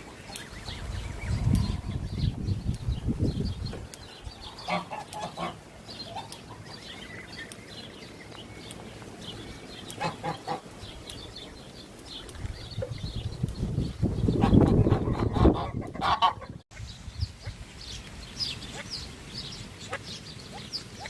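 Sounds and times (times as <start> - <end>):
adult bird low calls: 0.0 - 21.0
young waterfowl peeping: 0.0 - 21.0.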